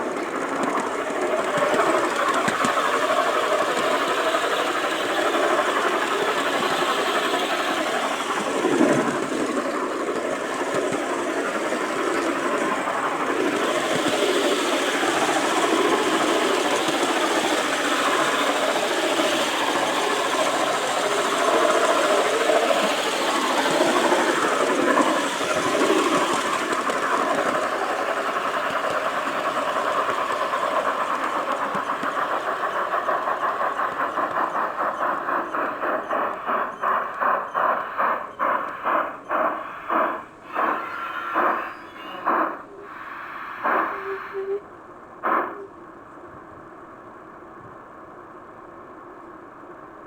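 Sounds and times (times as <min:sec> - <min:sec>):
model train wheels rattling: 0:00.0 - 0:44.5.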